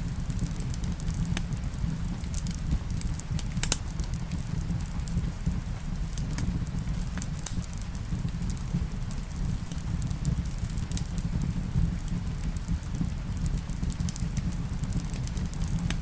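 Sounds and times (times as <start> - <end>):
faint rain hiss: 0.0 - 16.0
wood fire crackling: 0.0 - 16.0.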